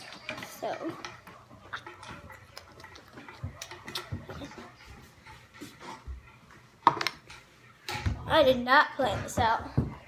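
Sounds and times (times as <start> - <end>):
objects being handled: 0.0 - 8.2.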